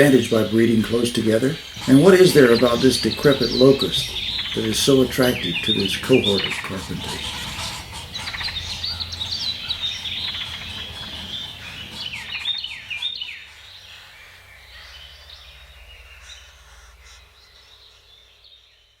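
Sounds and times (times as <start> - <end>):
birds calling: 0.0 - 19.0
low background rumble: 0.0 - 19.0.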